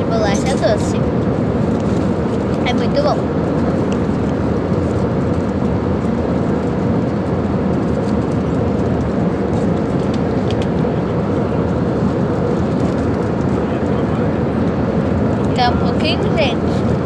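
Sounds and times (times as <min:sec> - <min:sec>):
airliner cabin noise: 0:00.0 - 0:17.0.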